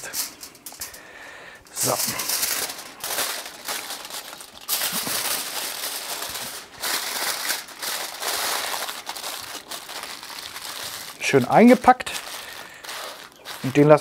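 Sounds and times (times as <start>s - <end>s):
foil crinkling: 1.7s - 14.0s.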